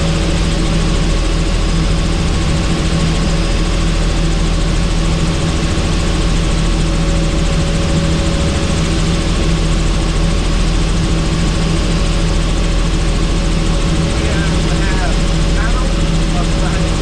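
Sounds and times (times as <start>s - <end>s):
constant hum: 0.0s - 17.0s
helicopter rotor and engine: 0.0s - 17.0s.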